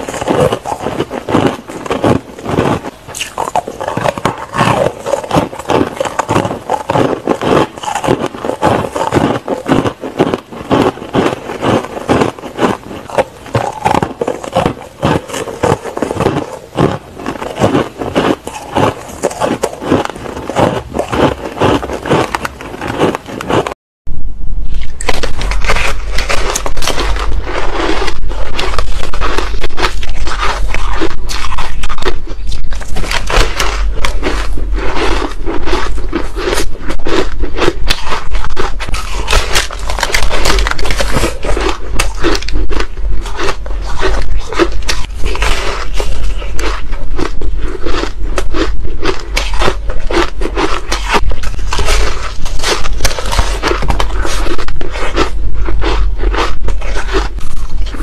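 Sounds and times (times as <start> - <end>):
crunching ice chunks: 0.0 - 23.7, 24.9 - 58.0.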